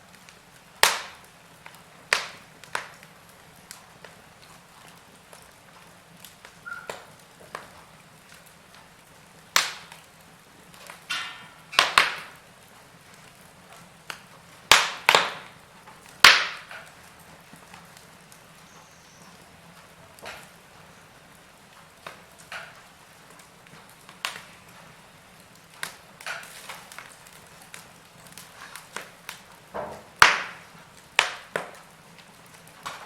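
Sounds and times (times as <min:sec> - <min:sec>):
logs crackling in fireplace: 0:00.0 - 0:33.0.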